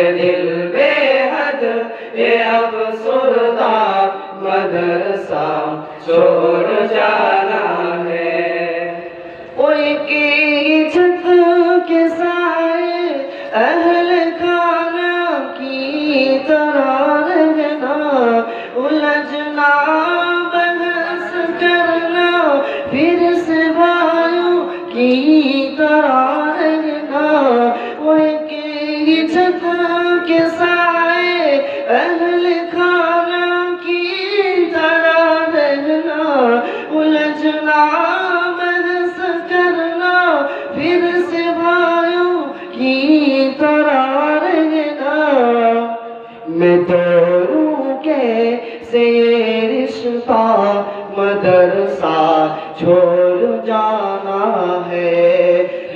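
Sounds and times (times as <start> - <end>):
man singing unaccompanied: 0.0 - 55.9.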